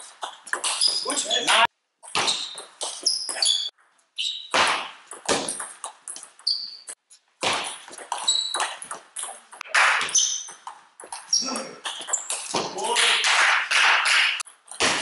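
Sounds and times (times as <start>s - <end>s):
shoes squeaking on floor: 0.0s - 12.9s
table tennis ball hitting bats: 0.0s - 15.0s.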